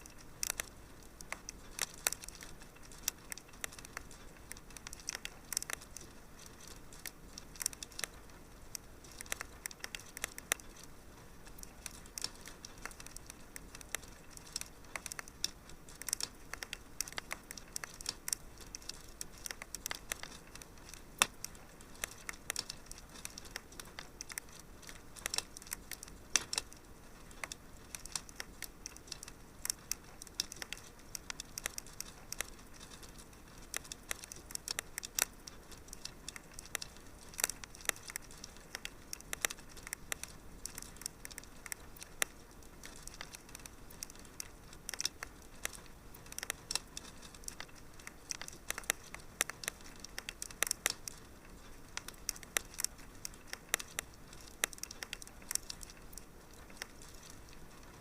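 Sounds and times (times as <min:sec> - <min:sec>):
faint steady hiss: 0:00.0 - 0:58.0
fireplace fire crackling: 0:00.0 - 0:58.0.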